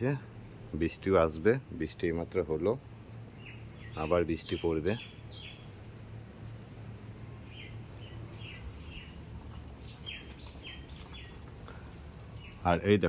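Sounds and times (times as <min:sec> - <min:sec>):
birds chirping: 0:00.0 - 0:13.0
low background hum: 0:00.0 - 0:13.0.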